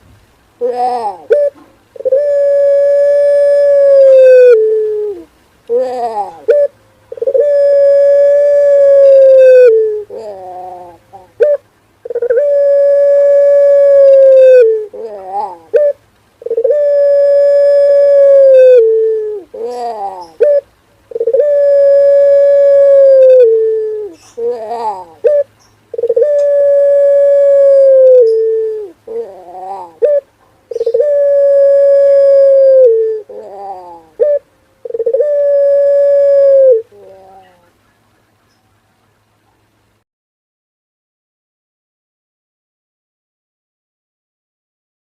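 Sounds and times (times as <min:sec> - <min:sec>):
dove cooing: 0:00.6 - 0:37.8
dove short wavering notes: 0:00.6 - 0:38.6.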